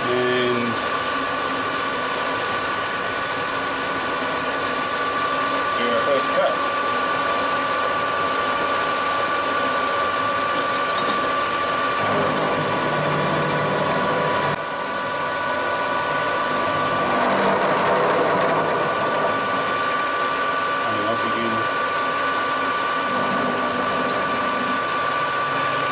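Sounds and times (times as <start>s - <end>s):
milling machine whine: 0.0s - 25.9s.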